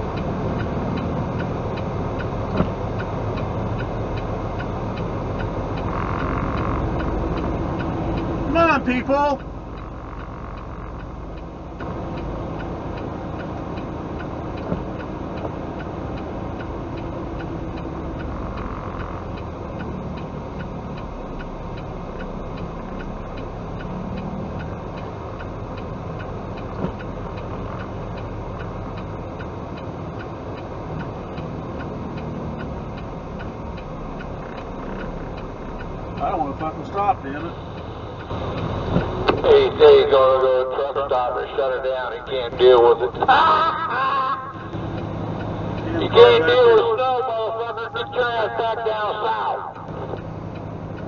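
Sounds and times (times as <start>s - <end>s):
diesel engine running: 0.0s - 51.0s
light regular ticking: 0.0s - 51.0s
road noise: 0.0s - 51.0s.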